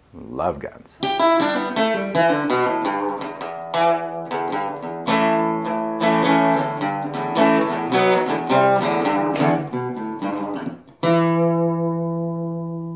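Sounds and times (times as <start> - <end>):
guitar playing plucked notes: 1.0 - 12.9.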